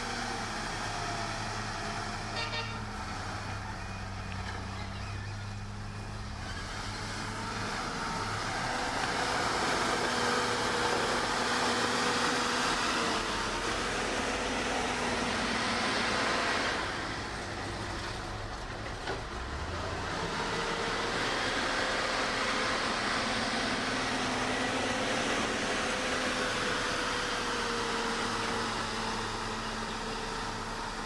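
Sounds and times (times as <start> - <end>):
heavy machinery engine running: 0.0 - 31.0.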